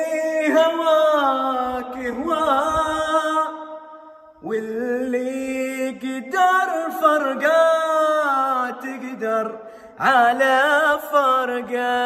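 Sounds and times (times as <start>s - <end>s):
man singing long notes: 0.0s - 12.0s.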